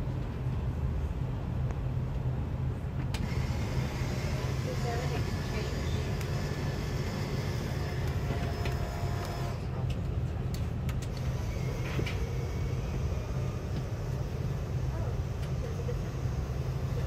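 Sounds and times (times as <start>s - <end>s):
airplane cabin hum: 2.4s - 17.0s.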